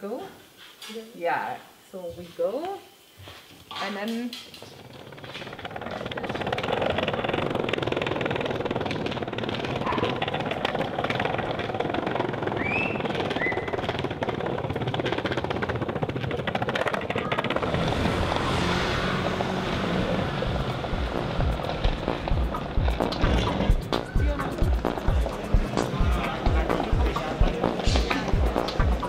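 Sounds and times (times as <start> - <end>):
skateboard wheels rolling on stone: 4.2 - 29.0.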